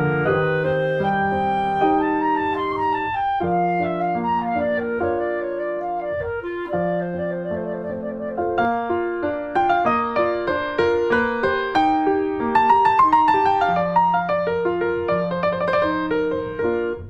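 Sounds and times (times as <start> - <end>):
long held melody notes: 0.0 - 17.0
piano notes: 0.0 - 17.0.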